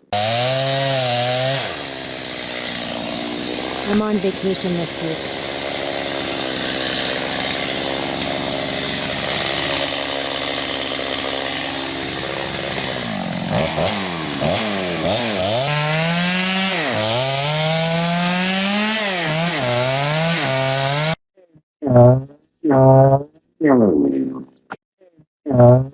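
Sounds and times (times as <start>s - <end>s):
chainsaw cutting wood: 0.0s - 21.2s.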